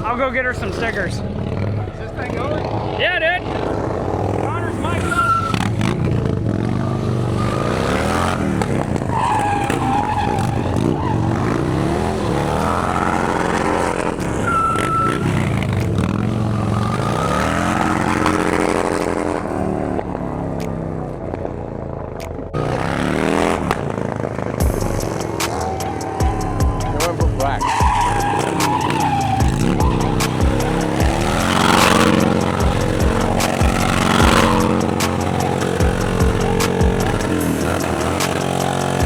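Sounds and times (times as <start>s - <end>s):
tyre squealing: 0.0s - 19.7s, 22.6s - 39.0s
motorcycle engine revving: 0.0s - 39.0s.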